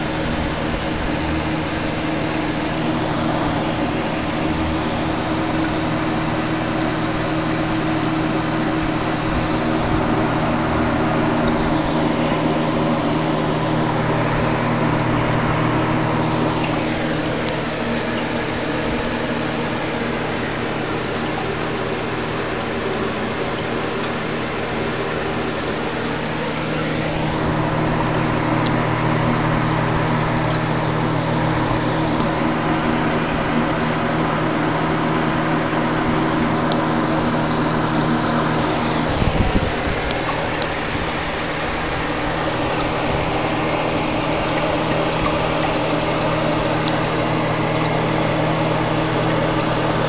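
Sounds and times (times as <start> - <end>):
aquarium pump humming: 0.0 - 50.0.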